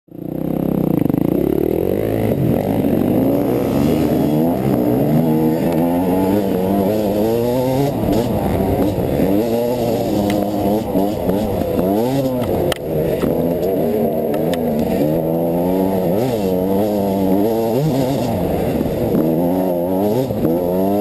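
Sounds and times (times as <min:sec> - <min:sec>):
dirt bike engine revving: 0:00.1 - 0:21.0.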